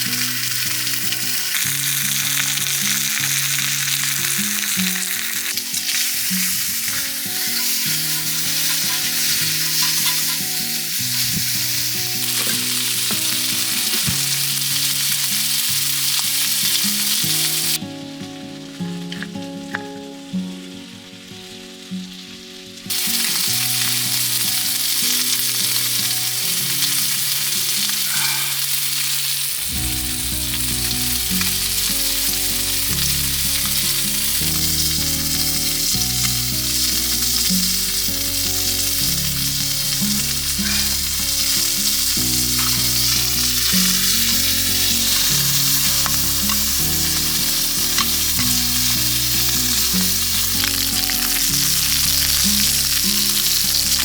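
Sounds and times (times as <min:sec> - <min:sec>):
background music: 0:00.0 - 0:54.0
food sizzling in a pan: 0:00.0 - 0:54.0.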